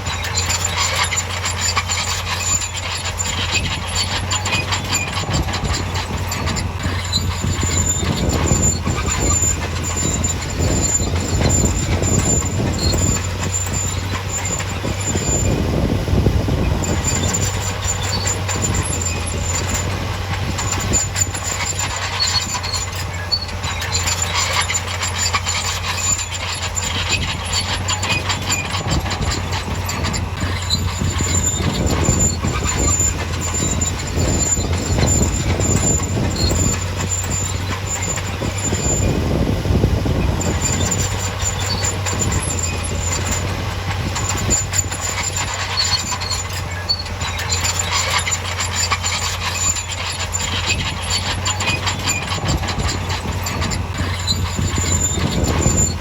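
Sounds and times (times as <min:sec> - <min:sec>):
bulldozer diesel engine running: 0:00.0 - 0:56.0
crawler tracks clanking and squealing: 0:00.0 - 0:56.0.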